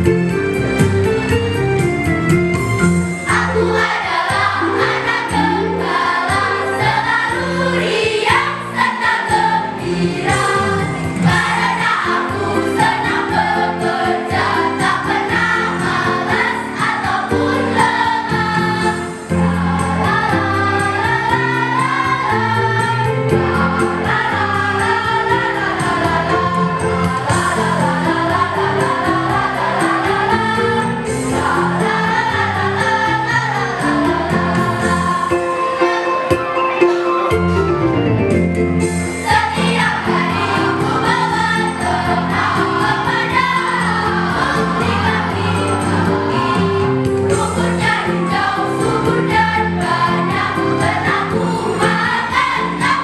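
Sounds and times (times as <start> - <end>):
instrumental accompaniment: 0.0 - 53.0
choir singing in parts: 3.2 - 36.3, 39.1 - 53.0.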